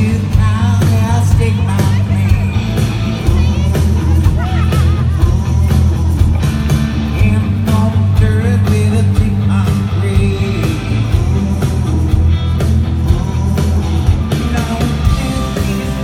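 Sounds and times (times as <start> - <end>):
person singing: 0.0 - 16.0
rock band playing live: 0.0 - 16.0.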